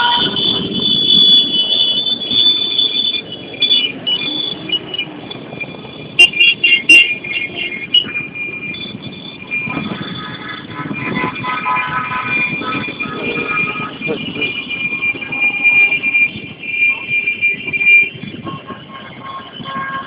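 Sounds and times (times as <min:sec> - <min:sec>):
motor vehicles running: 0:00.0 - 0:20.0.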